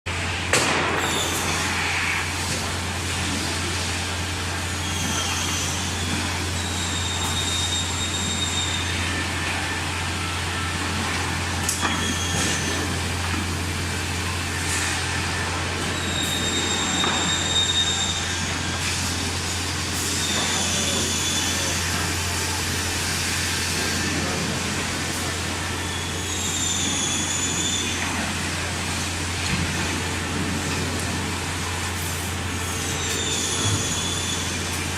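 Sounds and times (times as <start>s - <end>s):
factory background noise: 0.1s - 34.9s
high-pitched machine whines: 0.9s - 34.9s.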